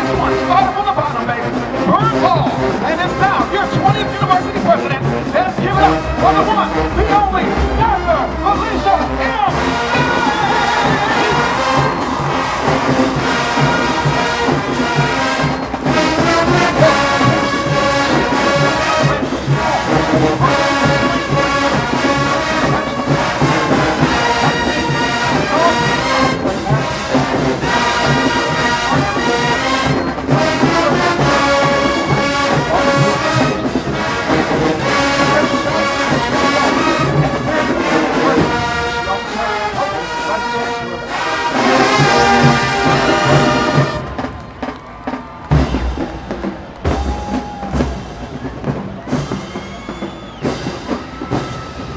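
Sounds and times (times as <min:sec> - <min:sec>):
marching band playing: 0:00.0 - 0:51.9.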